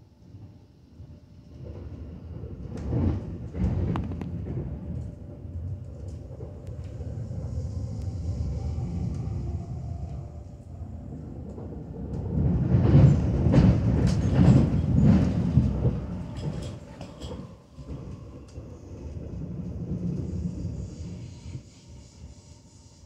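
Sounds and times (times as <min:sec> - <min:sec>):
train wheels rumbling on rails: 0:00.2 - 0:23.0.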